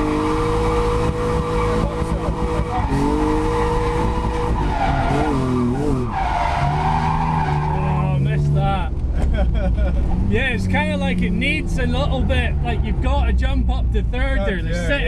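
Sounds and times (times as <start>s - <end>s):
car engine at high revs: 0.0s - 15.0s
tyres skidding: 0.0s - 15.0s.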